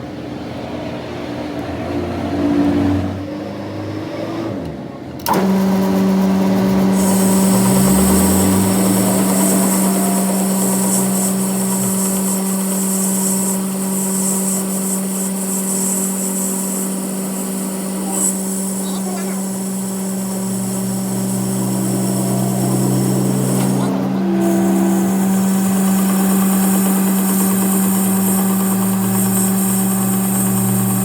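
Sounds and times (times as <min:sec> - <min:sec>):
machine humming and whining: 0:05.2 - 0:31.0.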